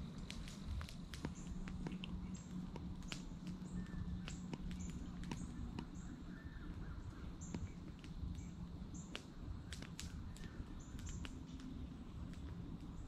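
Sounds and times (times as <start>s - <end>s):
low steady hum: 0.0s - 13.0s
sharp ticks and taps: 0.0s - 13.0s.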